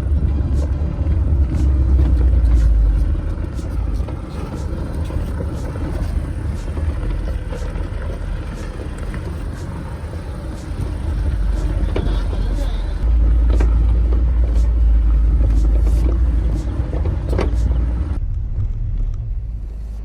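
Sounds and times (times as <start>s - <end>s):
vehicle rumble driving off-road: 0.0s - 20.0s.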